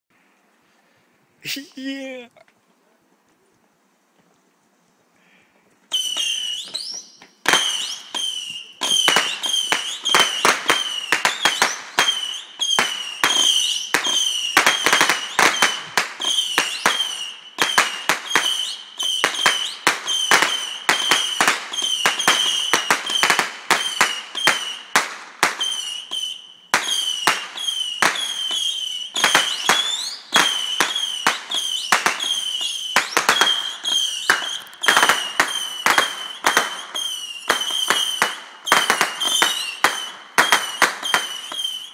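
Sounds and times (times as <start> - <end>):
small rockets whistling and cracking: 5.9 - 41.9.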